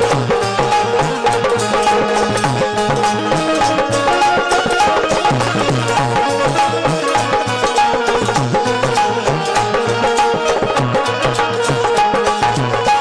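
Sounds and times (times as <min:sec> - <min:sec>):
hand drum fast rhythm: 0:00.0 - 0:13.0
sustained melodic accompaniment: 0:00.0 - 0:13.0.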